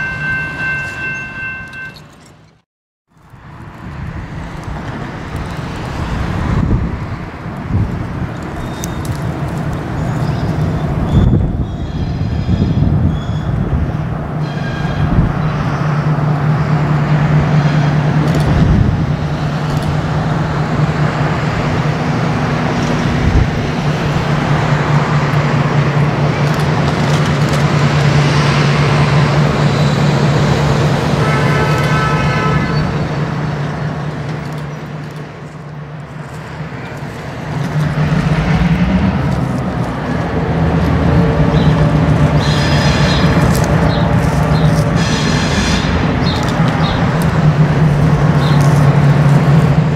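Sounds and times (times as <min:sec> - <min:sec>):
diesel locomotive engine droning: 0:00.0 - 0:49.9.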